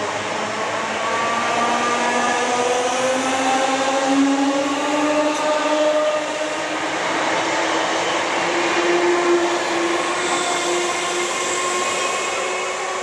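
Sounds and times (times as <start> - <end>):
electric train whine: 0.0 - 13.0
train wheels rumbling on rails: 0.0 - 13.0.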